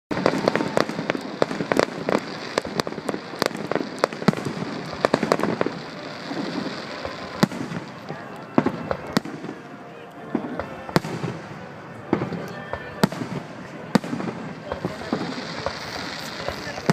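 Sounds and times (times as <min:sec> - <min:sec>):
fireworks bangs: 0:00.1 - 0:16.9
fireworks crackle: 0:00.1 - 0:16.9.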